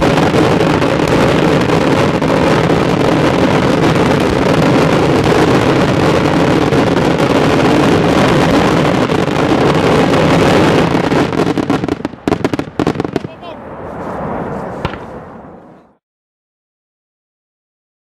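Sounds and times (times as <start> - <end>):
firecracker bangs: 0.0 - 13.6, 14.2 - 15.6.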